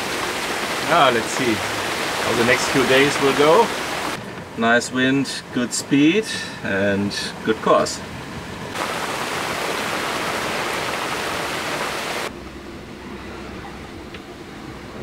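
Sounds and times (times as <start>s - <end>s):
rushing wind and rain: 0.0s - 12.3s.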